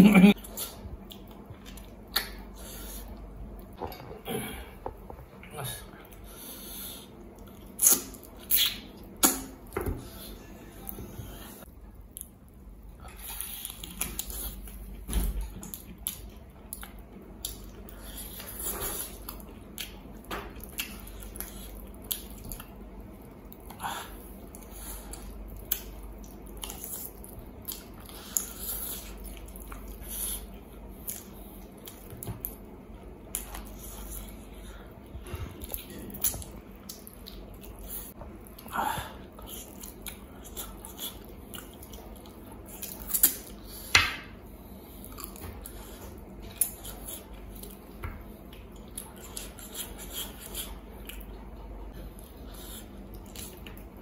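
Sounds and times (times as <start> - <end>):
man chewing meat: 0.3 - 54.0.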